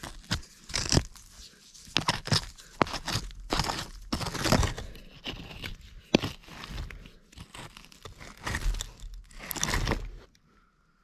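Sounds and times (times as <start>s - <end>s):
hand digging through loose soil: 0.0s - 10.3s.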